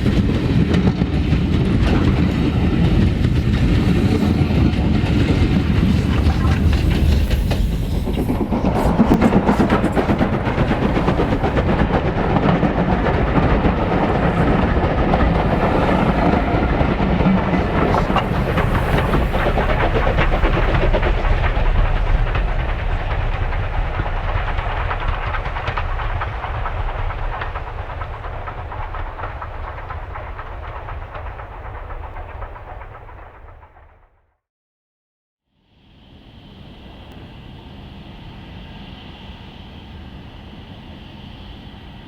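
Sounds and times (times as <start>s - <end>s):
steam train passing: 0.0s - 33.8s, 35.9s - 42.0s
wheels clattering on rails: 0.0s - 33.9s.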